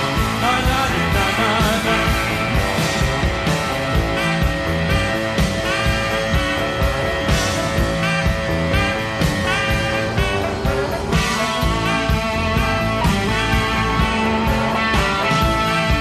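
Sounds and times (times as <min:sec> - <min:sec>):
rock song instrumental: 0:00.0 - 0:16.0.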